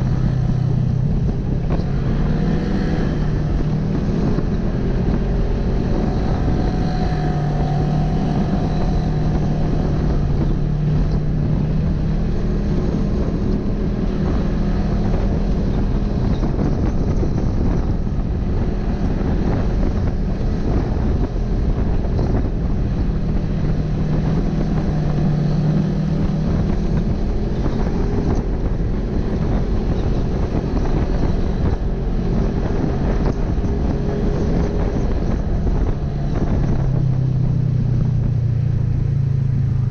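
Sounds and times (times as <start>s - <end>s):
twin-cylinder engine running: 0.0s - 39.9s
wind buffeting microphone: 0.0s - 39.9s.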